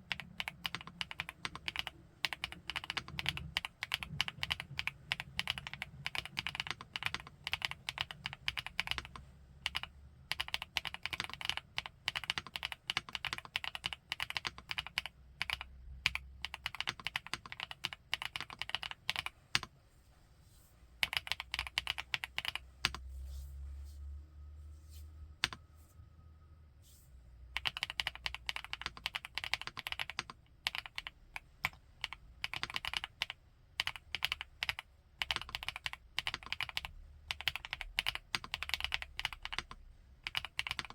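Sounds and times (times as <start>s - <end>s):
mechanical keyboard typing: 0.0s - 19.7s, 21.0s - 23.0s, 25.4s - 25.6s, 27.6s - 40.9s.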